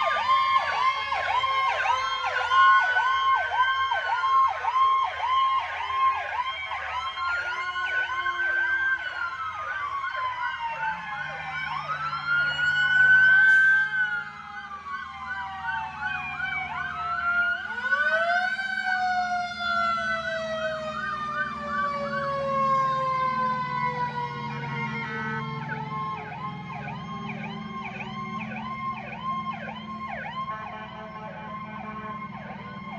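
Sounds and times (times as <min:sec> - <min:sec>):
police and fire sirens: 0:00.0 - 0:32.9.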